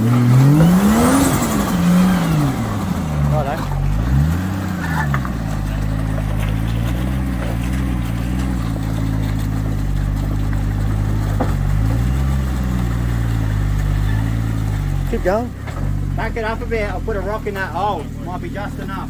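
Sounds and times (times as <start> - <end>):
engine revving under load: 0.0 - 19.0.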